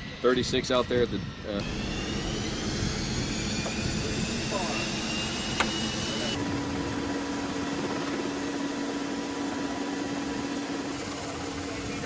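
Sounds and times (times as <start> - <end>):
constant droning tone: 0.0 - 12.0
helicopter machinery whirring: 0.0 - 12.0.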